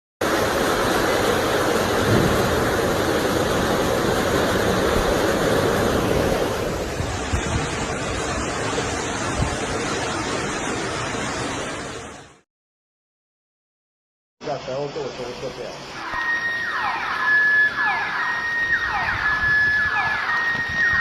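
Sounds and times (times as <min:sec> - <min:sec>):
floodwater rushing: 0:00.2 - 0:12.4, 0:14.6 - 0:21.0.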